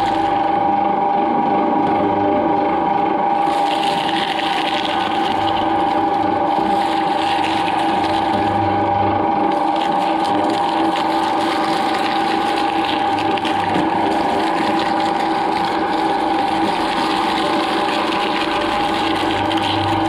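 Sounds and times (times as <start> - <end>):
shredder chewing corn: 0.0 - 20.0.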